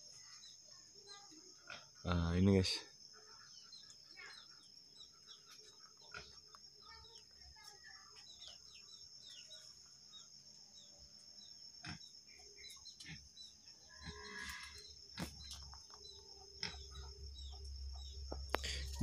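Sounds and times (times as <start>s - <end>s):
birds chirping: 0.0s - 19.0s
high-pitched insect drone: 0.0s - 19.0s.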